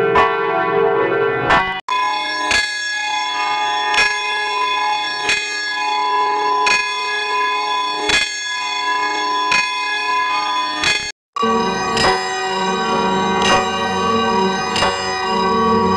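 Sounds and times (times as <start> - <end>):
church bell ringing: 0.0 - 15.9.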